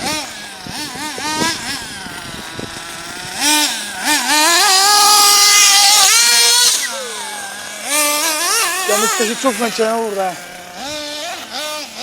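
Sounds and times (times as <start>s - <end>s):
small nitro engine revving: 0.0s - 12.0s.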